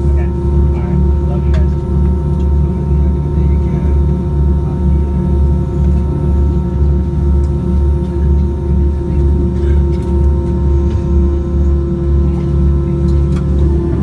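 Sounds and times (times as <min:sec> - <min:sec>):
aircraft cabin hum: 0:00.0 - 0:14.0.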